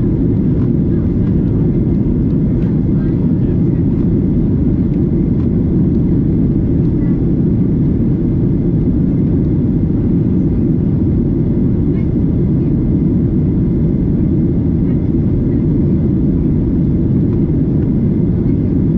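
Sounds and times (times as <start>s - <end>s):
airliner cabin rumble: 0.0s - 18.9s.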